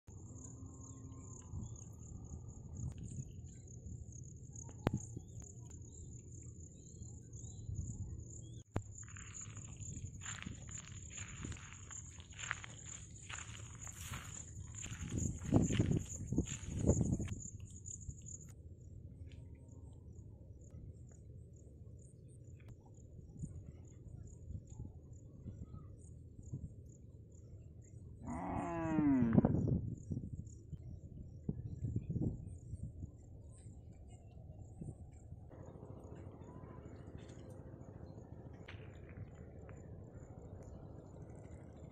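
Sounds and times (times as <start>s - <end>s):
insects trilling: 0.1s - 18.5s, 22.0s - 41.9s.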